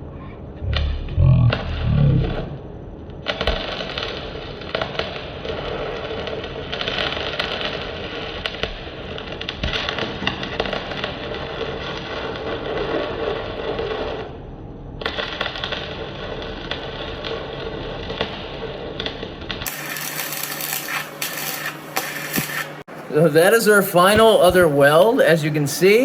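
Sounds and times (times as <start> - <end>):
welding arc crackling and sizzling: 0.6 - 14.4, 15.0 - 26.0.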